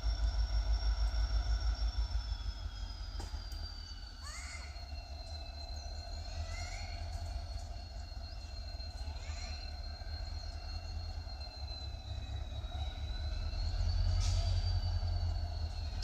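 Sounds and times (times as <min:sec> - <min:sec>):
thin high whine: 0:00.0 - 0:16.0
train rumble: 0:00.0 - 0:16.0.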